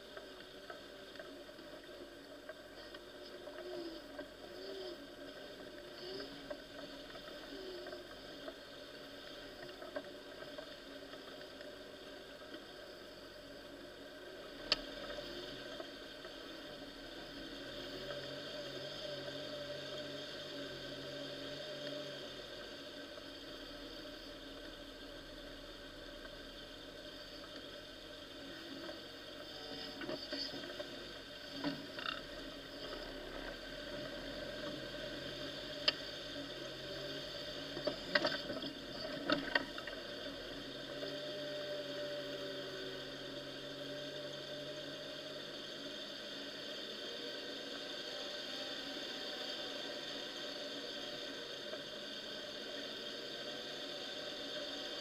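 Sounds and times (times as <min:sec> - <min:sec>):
muffled vehicle engine droning: 0:00.0 - 0:55.0.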